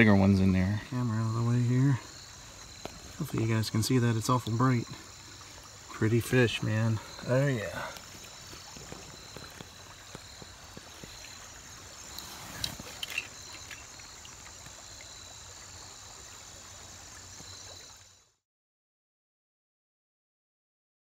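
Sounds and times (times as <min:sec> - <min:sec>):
creek water flowing over stones: 0:00.0 - 0:18.4.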